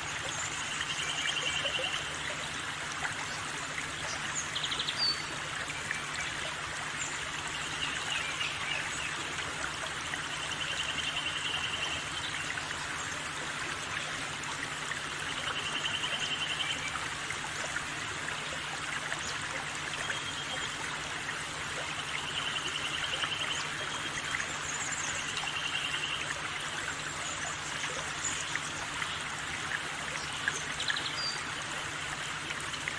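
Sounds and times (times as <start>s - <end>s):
stream of water running: 0.0s - 32.9s.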